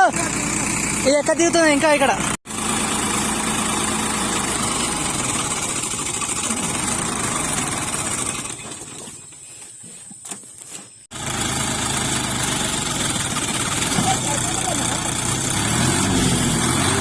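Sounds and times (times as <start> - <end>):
tractor diesel engine running: 0.0 - 10.2, 11.0 - 17.0.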